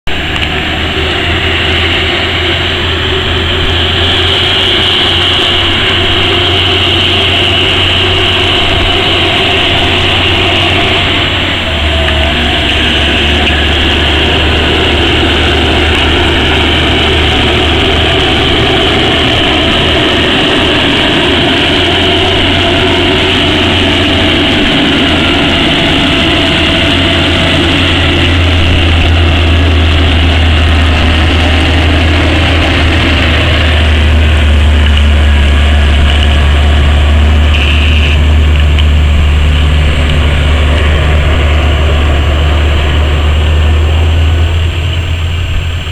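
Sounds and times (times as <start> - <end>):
diesel truck engine driving past: 0.0 - 45.9.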